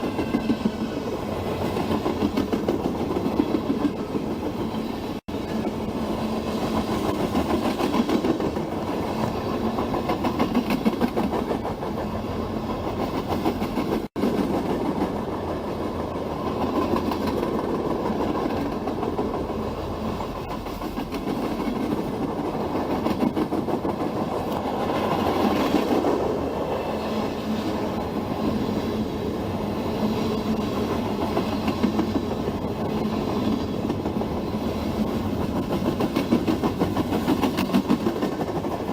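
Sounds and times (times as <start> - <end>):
train wheels clacking over rails: 0.0 - 29.0, 29.9 - 38.9.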